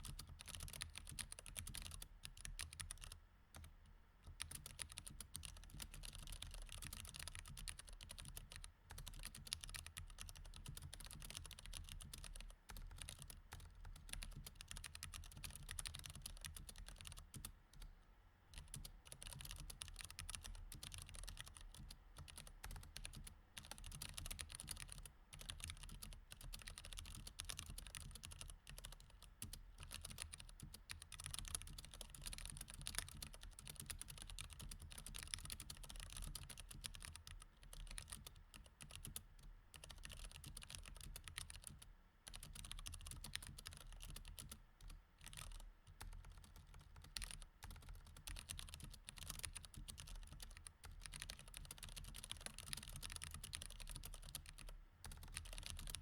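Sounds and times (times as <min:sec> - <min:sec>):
mechanical keyboard typing: 0:00.0 - 0:03.7, 0:04.3 - 0:17.9, 0:18.6 - 0:39.2, 0:39.8 - 0:56.0.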